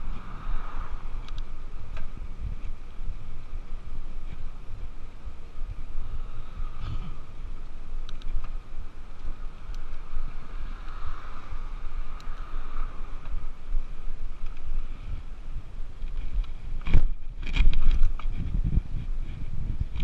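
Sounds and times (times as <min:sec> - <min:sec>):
tyre and road noise: 0:00.0 - 0:20.0
wind buffeting microphone: 0:00.0 - 0:20.0.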